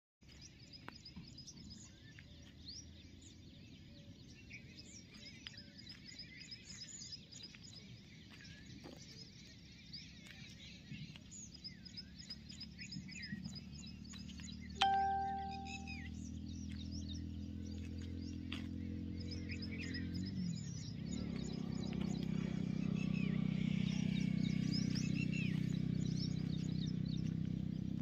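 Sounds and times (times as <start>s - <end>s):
birds chirping and twittering: 0.2s - 28.0s
rapid repeated bird chirp: 0.2s - 28.0s.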